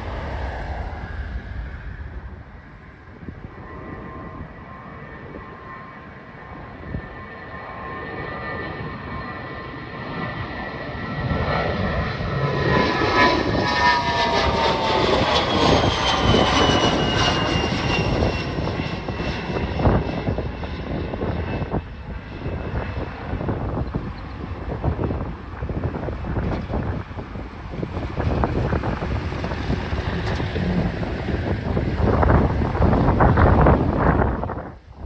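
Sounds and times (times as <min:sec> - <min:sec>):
airplane taking off: 0:00.0 - 0:35.0.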